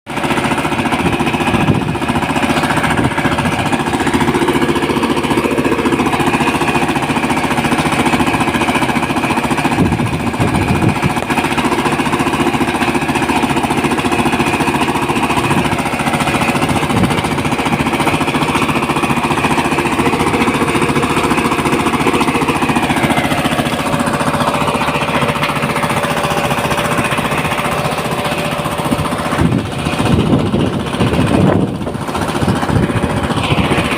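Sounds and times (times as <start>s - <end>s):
excavator engine running: 0.1s - 33.9s
rapid jackhammer-like pounding: 0.1s - 33.9s.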